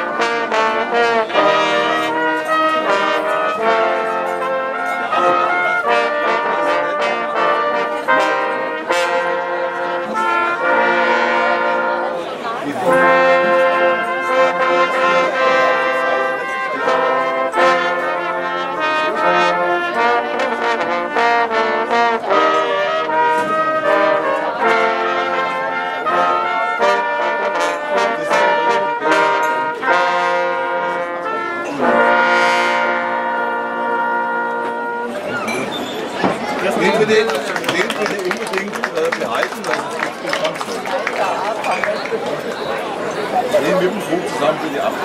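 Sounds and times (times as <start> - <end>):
brass band playing: 0.0 - 45.0.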